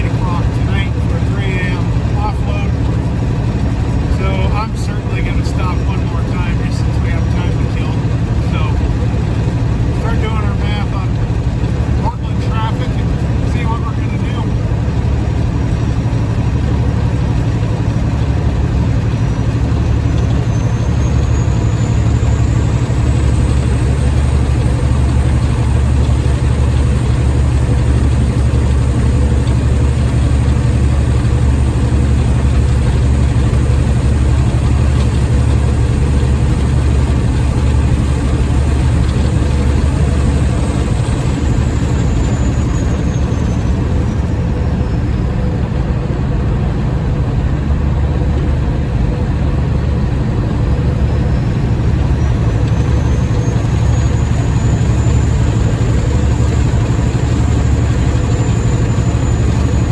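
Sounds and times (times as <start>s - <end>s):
road noise: 0.0s - 59.9s
truck diesel engine droning: 0.0s - 59.9s.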